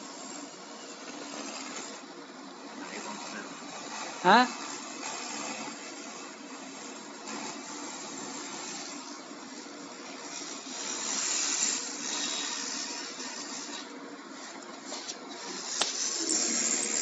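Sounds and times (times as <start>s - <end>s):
laser cleaning hiss: 0.0s - 17.0s.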